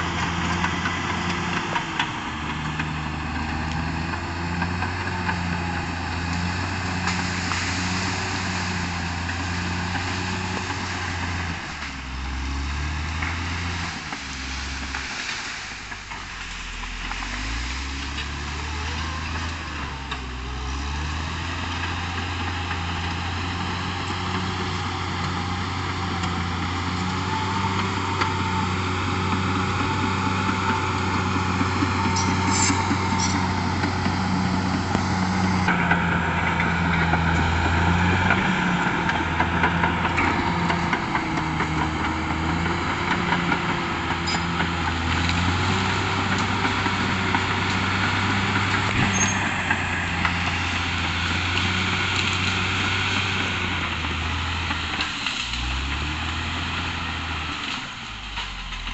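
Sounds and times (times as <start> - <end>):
bulldozer diesel engine running: 0.0 - 58.9.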